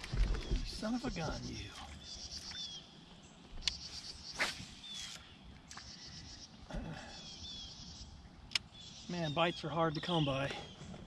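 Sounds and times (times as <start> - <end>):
faint bird chirps: 0.2 - 11.0.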